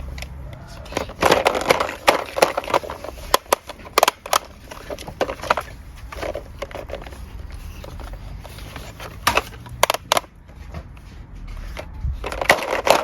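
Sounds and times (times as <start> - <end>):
toy cars clicking and clattering: 0.0 - 13.0.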